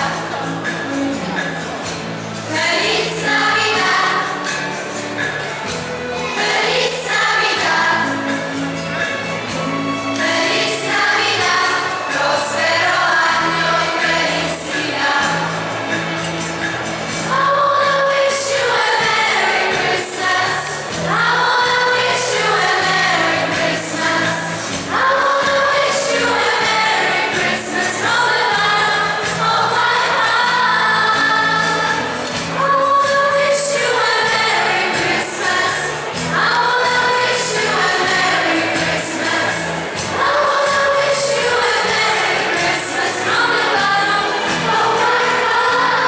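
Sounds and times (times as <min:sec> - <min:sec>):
choir singing a carol: 0:00.0 - 0:46.0.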